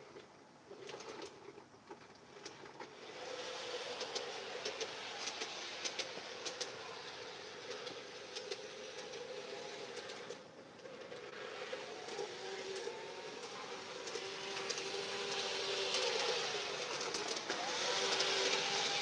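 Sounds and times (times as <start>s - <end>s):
model train motor hum: 0.0s - 19.0s
wheels clicking on rails: 0.0s - 19.0s.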